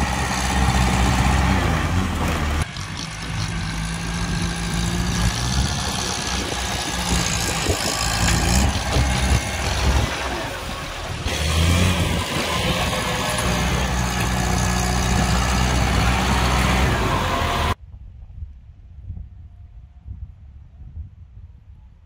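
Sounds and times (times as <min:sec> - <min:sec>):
tractor diesel engine under load: 0:00.0 - 0:17.8
faint wind: 0:00.0 - 0:22.0.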